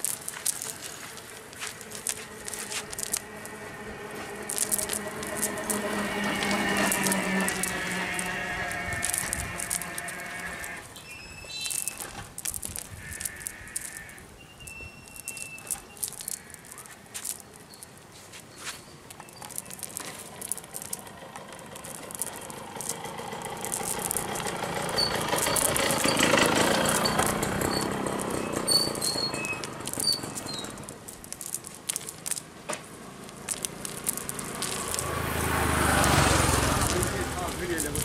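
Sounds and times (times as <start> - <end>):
lead sinkers clicking and rattling: 0.0 - 38.0.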